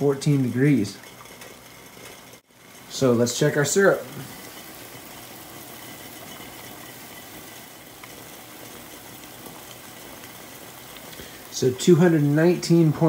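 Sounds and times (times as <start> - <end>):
syrup boiling in a pot: 0.0 - 13.0.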